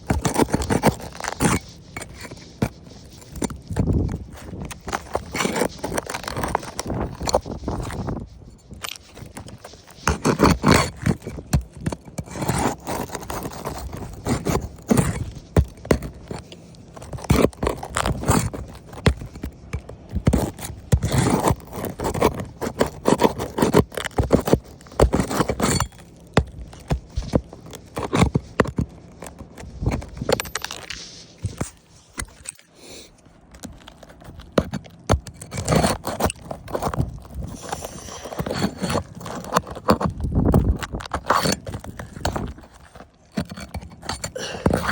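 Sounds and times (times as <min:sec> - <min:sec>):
roof shingle scraping and knocking: 0:00.0 - 0:44.9.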